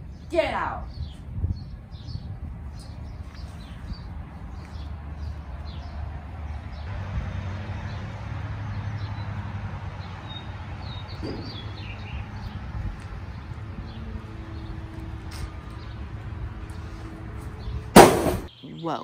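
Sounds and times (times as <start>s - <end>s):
low outdoor hum: 0.0s - 18.8s
songbirds chirping: 0.0s - 19.0s.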